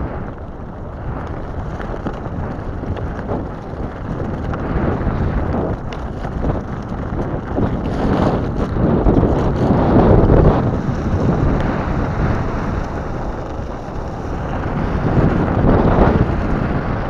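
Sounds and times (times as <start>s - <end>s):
grit ticking: 0.0s - 17.0s
tyres rolling on wet gravel: 0.0s - 17.0s
wind buffeting microphone: 0.0s - 17.0s.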